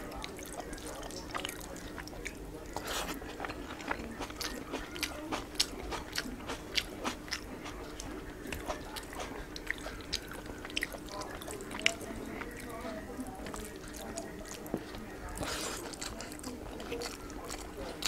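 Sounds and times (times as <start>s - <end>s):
person chewing with wet mouth clicks: 0.1s - 12.7s, 13.4s - 18.0s.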